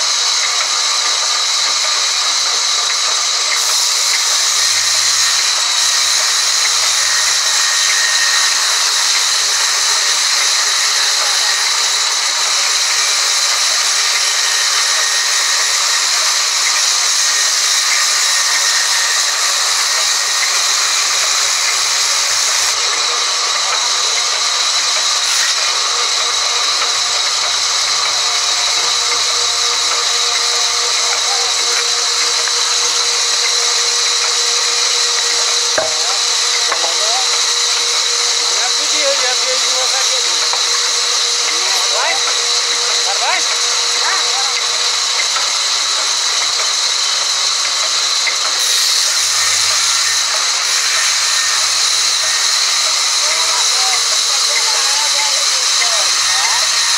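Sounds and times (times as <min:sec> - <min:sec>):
band saw cutting wood: 0:00.0 - 0:56.9.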